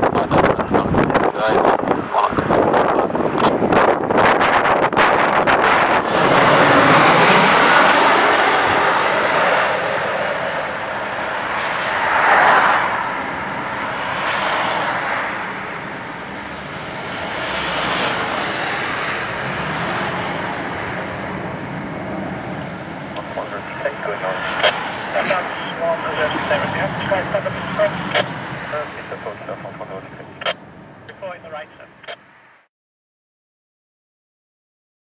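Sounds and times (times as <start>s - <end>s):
jet airliner engine roar: 0.0s - 32.2s.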